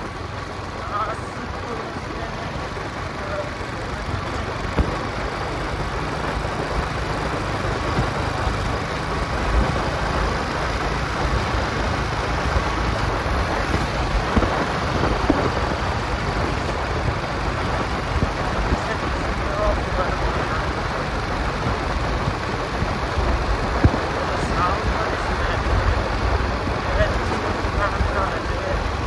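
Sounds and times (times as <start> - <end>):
motorcycle engine: 0.0 - 29.0
wind buffeting microphone: 0.0 - 29.0.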